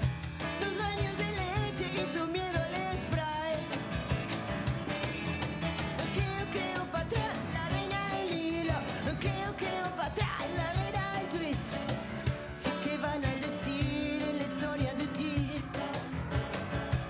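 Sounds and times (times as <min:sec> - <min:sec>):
cajon beat: 0:00.0 - 0:17.0
electric guitar: 0:00.0 - 0:17.0
person singing: 0:00.4 - 0:03.7, 0:06.0 - 0:16.7.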